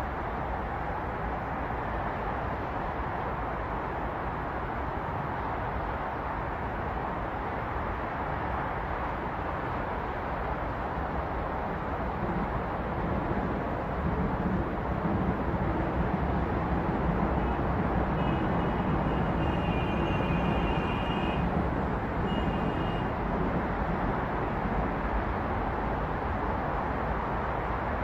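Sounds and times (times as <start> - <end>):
city road traffic: 0.0 - 28.0.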